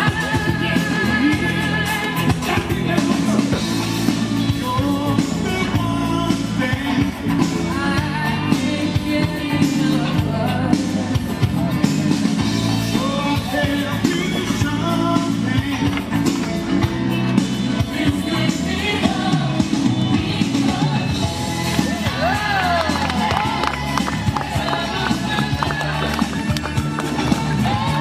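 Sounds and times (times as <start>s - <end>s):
upbeat song with singing: 0.0s - 28.0s.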